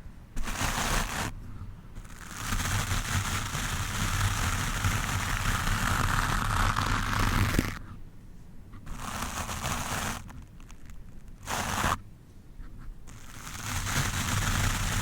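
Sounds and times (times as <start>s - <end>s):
brush scraping microphone: 0.0s - 8.0s, 8.8s - 12.0s, 12.6s - 15.0s.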